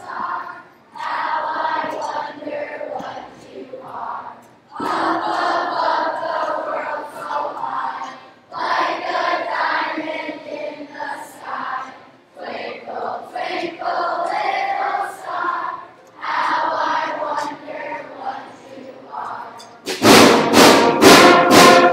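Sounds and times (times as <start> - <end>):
children performing sustained notes: 0.0 - 21.9.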